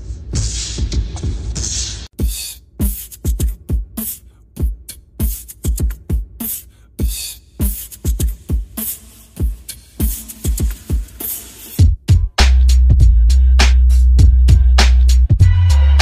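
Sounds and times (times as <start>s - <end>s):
electronic hip-hop beat: 0.0s - 16.0s.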